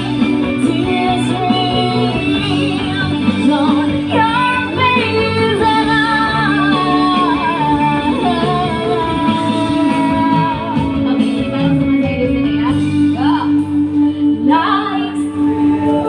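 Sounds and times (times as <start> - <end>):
instrumental backing: 0.0 - 16.0
person singing with vibrato: 0.0 - 16.0.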